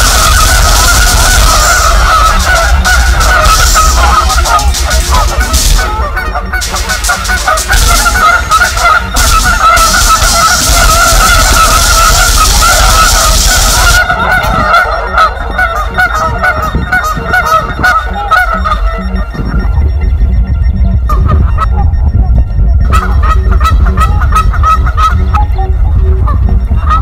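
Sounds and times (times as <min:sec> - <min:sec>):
crackling distortion: 0:00.0 - 0:27.0
distorted wavering drone: 0:00.0 - 0:27.0
heavy low rumble: 0:00.0 - 0:27.0.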